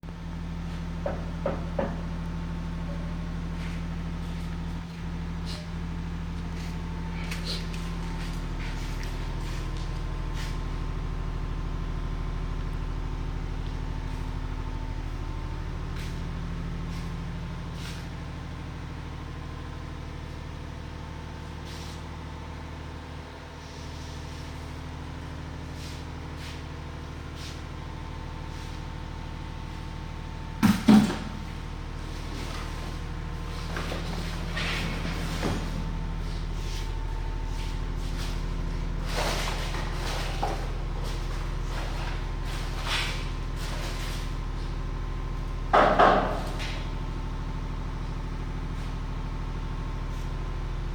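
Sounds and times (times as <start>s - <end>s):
engine humming: 0.0s - 50.9s.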